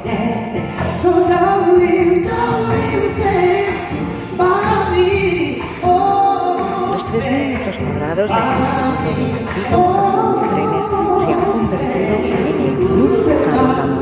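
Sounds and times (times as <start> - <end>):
gospel choir singing: 0.0 - 14.0
band playing softly: 0.8 - 14.0.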